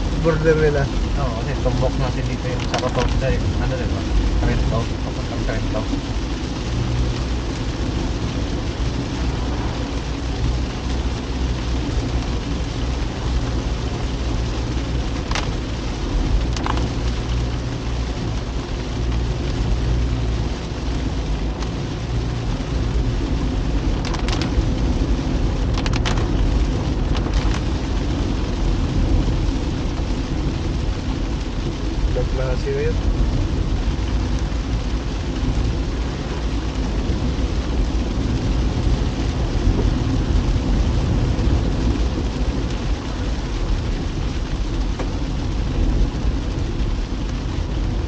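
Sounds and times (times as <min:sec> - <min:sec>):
car engine and road rumble: 0:00.0 - 0:48.0
rain hiss: 0:00.0 - 0:48.0.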